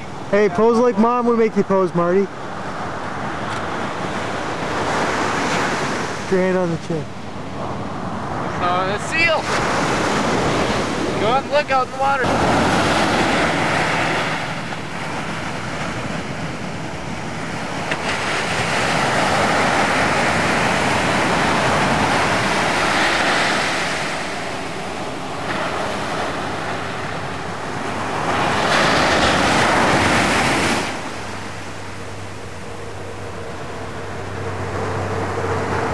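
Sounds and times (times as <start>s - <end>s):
ocean surf waves breaking: 0.0s - 35.9s.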